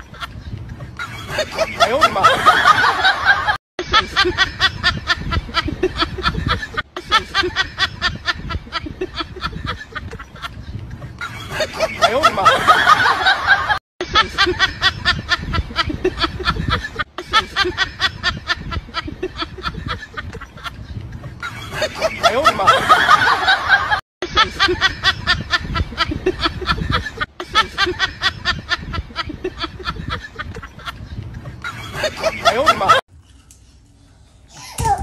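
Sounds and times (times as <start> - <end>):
breathy laughter: 0.0 - 33.0.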